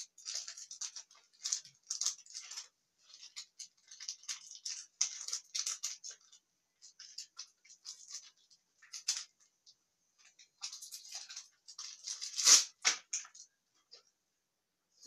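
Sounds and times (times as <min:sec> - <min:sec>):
plastic packet crinkling: 0:00.0 - 0:09.6, 0:10.2 - 0:13.5.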